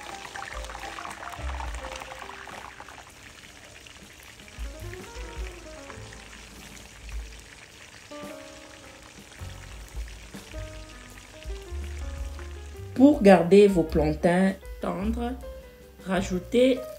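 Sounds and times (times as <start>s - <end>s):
background music: 0.0s - 16.9s
plantain frying in oil: 0.0s - 16.9s.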